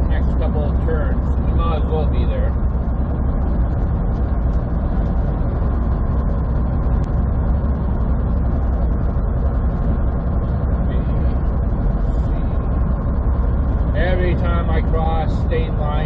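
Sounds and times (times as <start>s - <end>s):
diesel engine and road noise: 0.0s - 16.0s.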